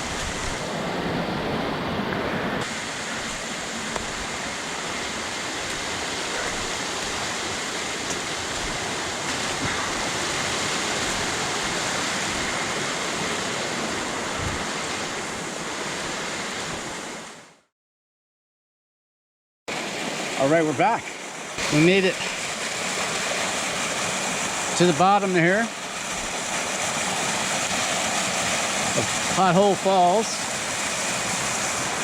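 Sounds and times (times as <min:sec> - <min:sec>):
small waterfall rushing: 0:00.0 - 0:17.6, 0:19.7 - 0:32.0.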